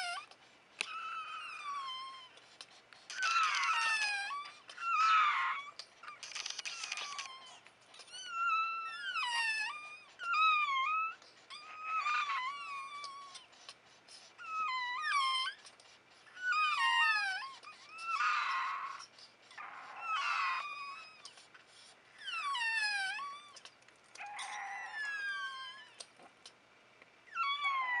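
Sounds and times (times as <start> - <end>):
puppies crying: 0.0 - 2.4, 3.0 - 13.5, 14.3 - 21.5, 22.2 - 26.1, 27.3 - 28.0.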